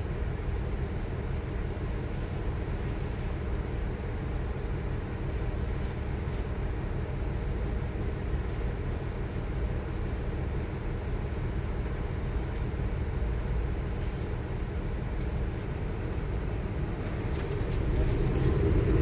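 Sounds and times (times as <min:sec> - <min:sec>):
bus cabin low rumble: 0:00.0 - 0:19.0.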